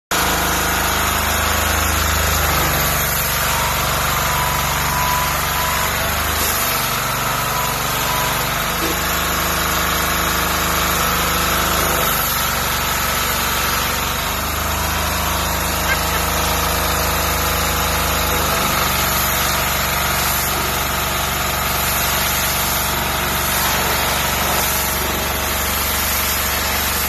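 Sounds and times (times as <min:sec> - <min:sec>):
pressure washer engine running: 0:00.1 - 0:27.0.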